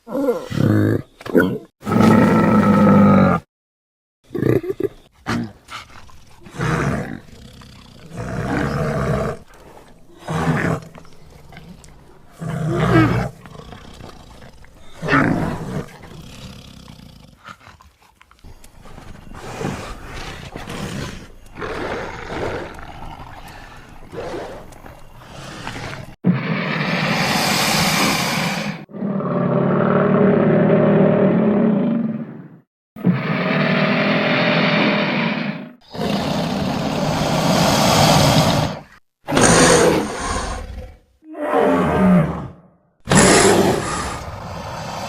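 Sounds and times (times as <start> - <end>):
animal roars and growls: 0.0 - 3.5, 4.3 - 45.0.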